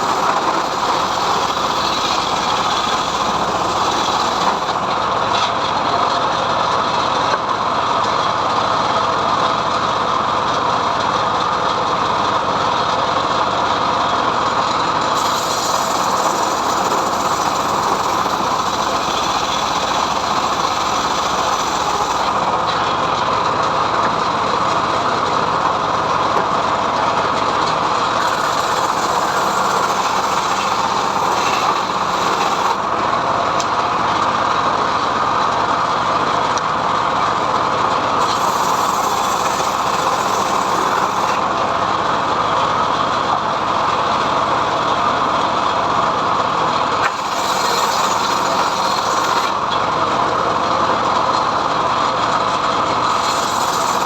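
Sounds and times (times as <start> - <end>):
sawmill cutting log: 0.0 - 54.0.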